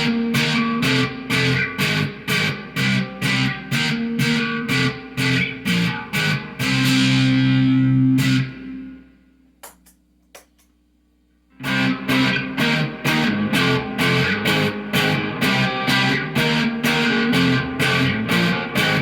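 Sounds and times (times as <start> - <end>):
distorted electric guitar chords: 0.0 - 9.2, 11.5 - 19.0.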